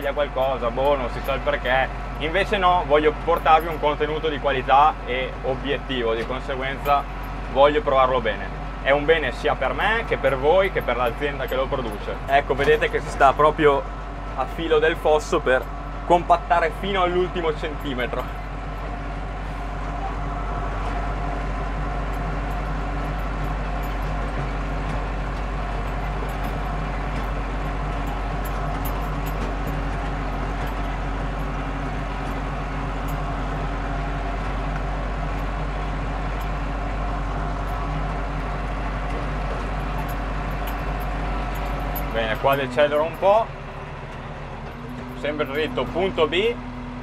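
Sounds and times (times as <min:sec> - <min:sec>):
tractor diesel engine under load: 0:00.0 - 0:47.0.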